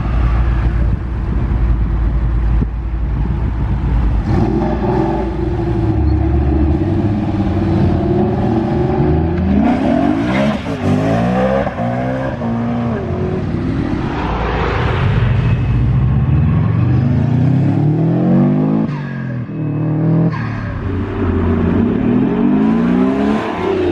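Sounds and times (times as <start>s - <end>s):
sports car engines accelerating: 0.0s - 23.9s.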